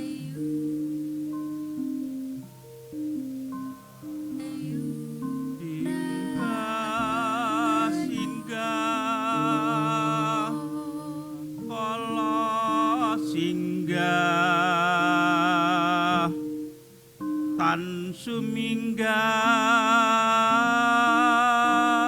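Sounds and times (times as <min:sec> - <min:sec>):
person singing a chant: 0:00.0 - 0:00.8, 0:04.0 - 0:16.5, 0:17.6 - 0:22.0
low sustained tones: 0:00.0 - 0:22.0.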